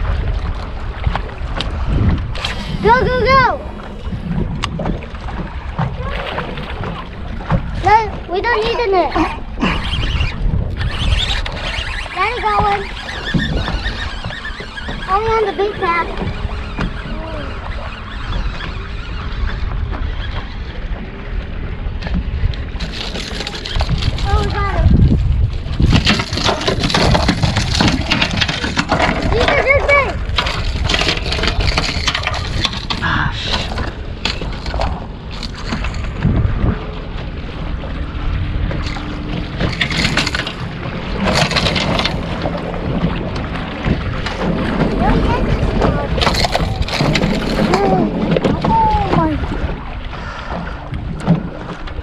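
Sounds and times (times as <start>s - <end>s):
wind rumbling on microphone: 0.0s - 52.0s.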